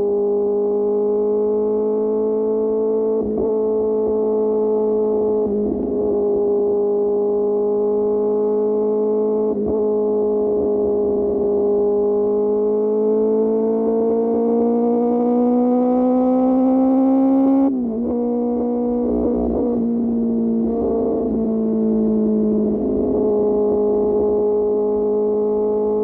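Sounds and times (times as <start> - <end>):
motorcycle engine revving: 0.1 - 26.0.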